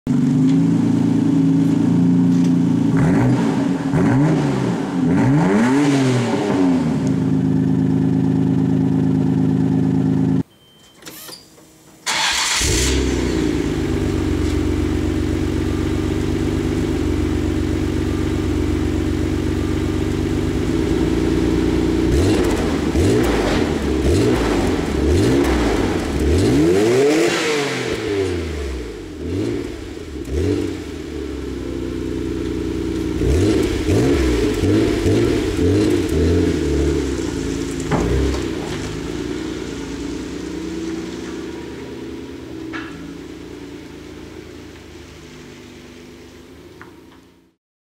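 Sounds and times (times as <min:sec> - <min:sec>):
car engine idling and revving: 0:00.1 - 0:10.4, 0:12.1 - 0:47.4.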